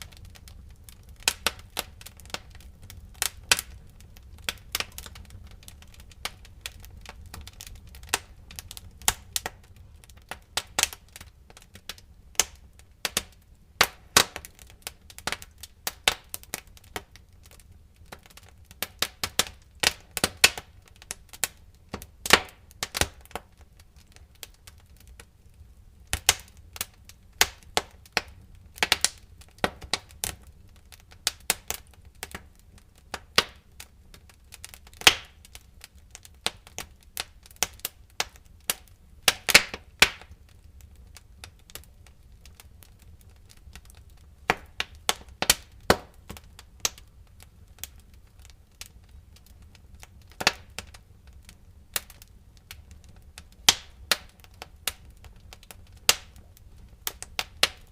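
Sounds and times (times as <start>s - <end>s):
faint low fire rumble: 0.0s - 57.9s
wood fire popping and snapping: 0.0s - 57.9s.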